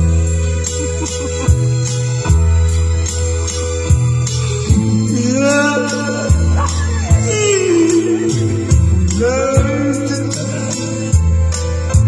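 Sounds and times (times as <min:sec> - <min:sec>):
held bass notes: 0:00.0 - 0:12.0
karaoke backing music: 0:00.0 - 0:12.0
keyboard chords: 0:00.0 - 0:12.0.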